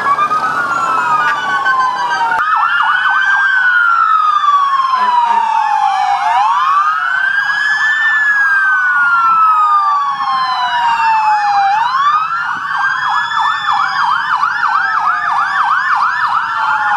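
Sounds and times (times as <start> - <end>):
siren wailing: 0.0 - 16.9
siren yelp sweeps: 0.0 - 16.9.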